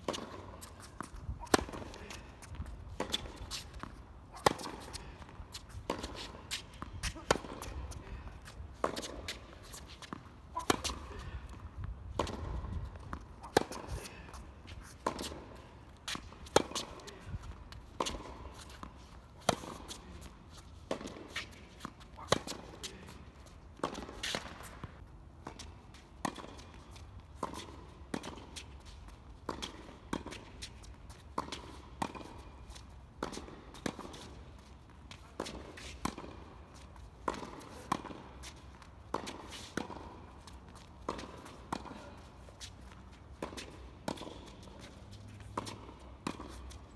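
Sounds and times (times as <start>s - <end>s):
racket striking tennis ball: 0.0s - 17.4s, 18.0s - 20.2s, 20.8s - 23.1s, 23.8s - 26.6s, 29.4s - 32.4s, 35.1s - 36.6s, 37.2s - 46.9s.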